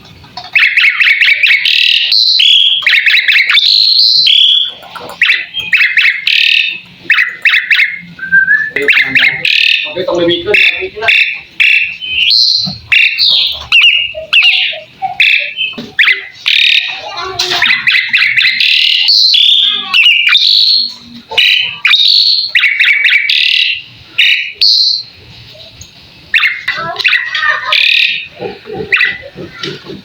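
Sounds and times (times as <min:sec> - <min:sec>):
starling singing: 0:00.4 - 0:30.0.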